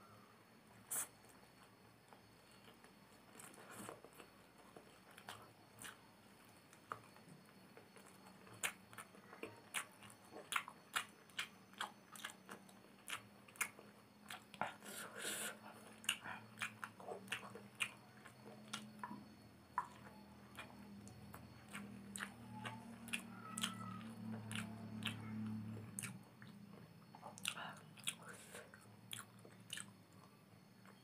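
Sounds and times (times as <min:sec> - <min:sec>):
chewing and crunching food: 0:00.9 - 0:31.0.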